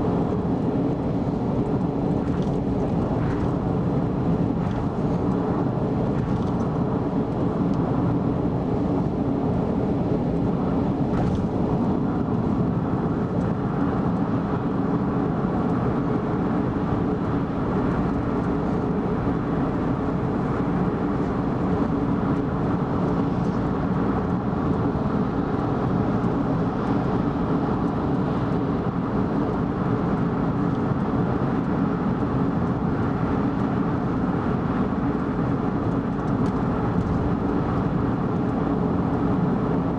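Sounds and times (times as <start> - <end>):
car cruising road and engine noise: 0.0 - 39.9.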